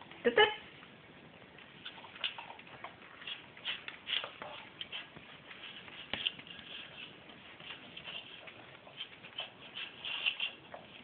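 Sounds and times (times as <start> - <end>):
dog chewing food: 1.4 - 11.0.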